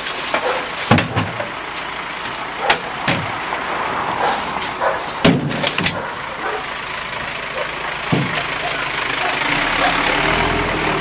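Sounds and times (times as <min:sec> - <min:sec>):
garbage truck engine running: 0:00.0 - 0:11.0.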